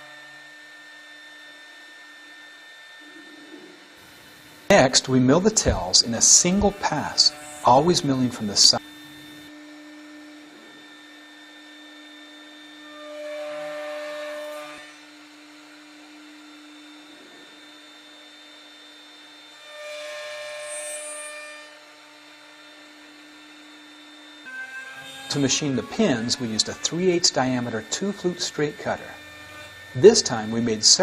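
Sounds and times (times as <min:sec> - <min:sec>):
router bit milling wood: 0:00.0 - 0:31.0
router spindle humming: 0:00.0 - 0:31.0.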